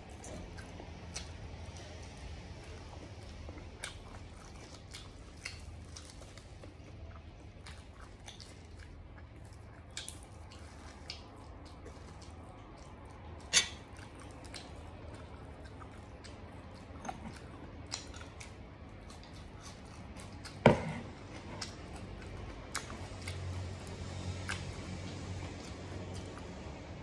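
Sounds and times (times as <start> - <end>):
close chewing: 0.0 - 27.0.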